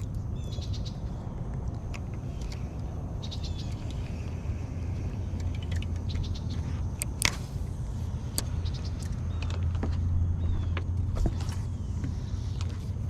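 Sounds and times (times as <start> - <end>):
birds chirping: 0.0 - 13.0
low motor rumble: 0.0 - 13.0.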